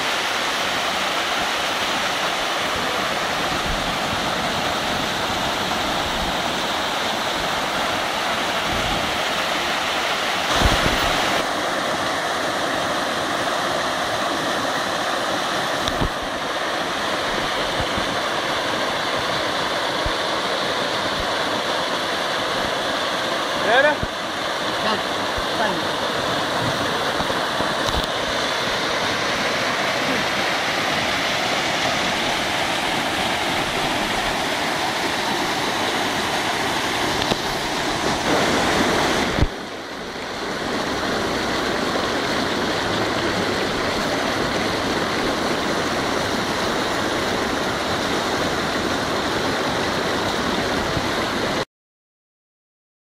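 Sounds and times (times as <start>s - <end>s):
rushing rainwater: 0.0s - 51.7s.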